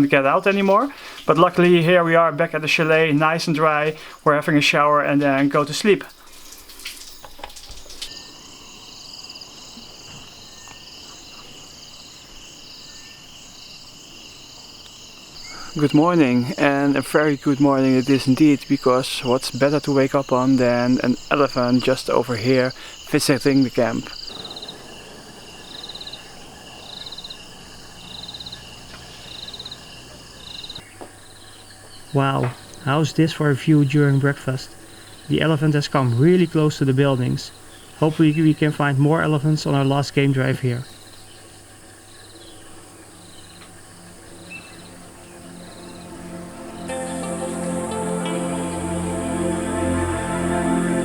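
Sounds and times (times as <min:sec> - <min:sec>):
insects trilling: 0:00.0 - 0:51.0
outdoor background noise: 0:00.0 - 0:51.0.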